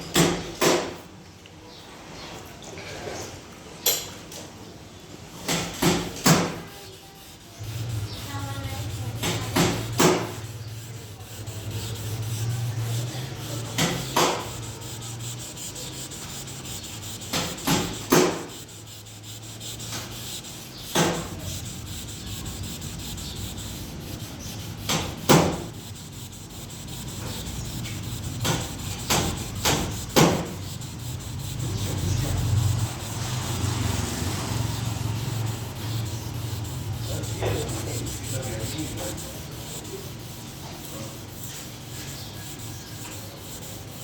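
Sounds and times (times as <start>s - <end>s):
sandpaper scraping car panel: 5.5s - 44.0s.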